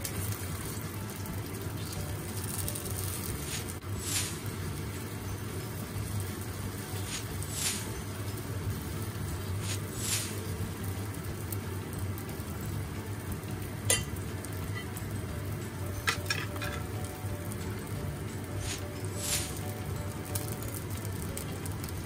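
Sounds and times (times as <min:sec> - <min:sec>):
batter sizzling in a pan: 0:00.0 - 0:22.0.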